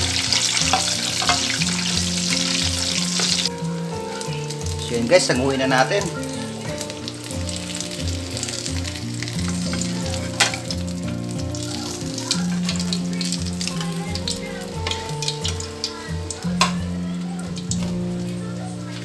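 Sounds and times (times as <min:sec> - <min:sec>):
slotted spoon stirring oil: 0:00.0 - 0:04.8, 0:05.8 - 0:16.9
deep-frying sizzle and crackles: 0:00.0 - 0:19.0.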